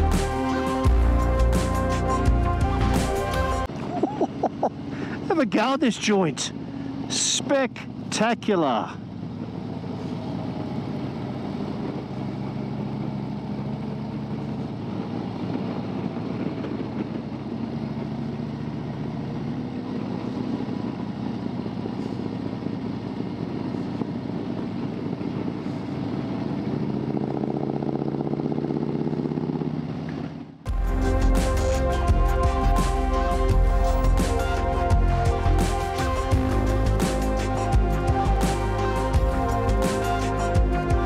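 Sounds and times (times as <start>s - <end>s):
motorcycle engine running: 6.5s - 41.0s.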